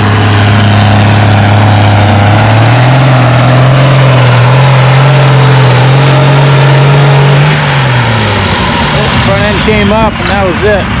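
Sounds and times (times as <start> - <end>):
tractor engine under load: 0.0 - 11.0.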